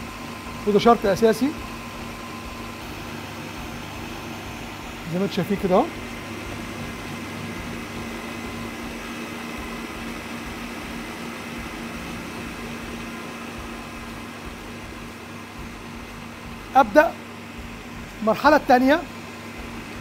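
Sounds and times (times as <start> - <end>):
stand mixer whisking: 0.0 - 20.0.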